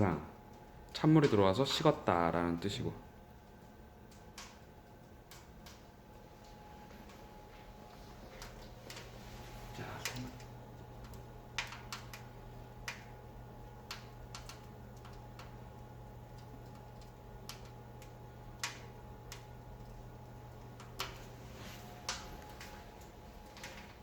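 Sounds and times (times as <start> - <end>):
circulation pump motor hum: 0.0 - 24.0
wood fire crackling: 0.0 - 24.0.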